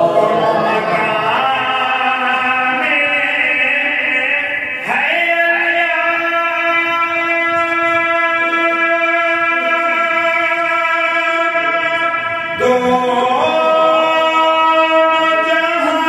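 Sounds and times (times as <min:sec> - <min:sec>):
man singing a hymn: 0:00.0 - 0:16.0.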